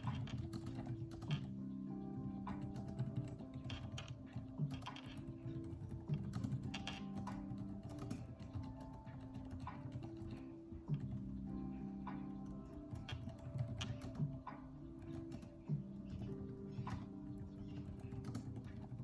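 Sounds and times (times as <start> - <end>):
computer keyboard typing: 0.0 - 19.0
soft background music: 0.0 - 19.0.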